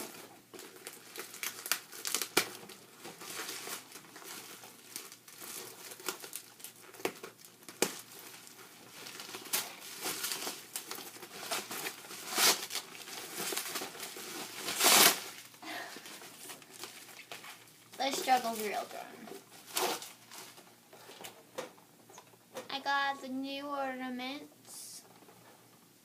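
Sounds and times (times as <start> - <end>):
packaging crinkling: 0.0 - 21.7.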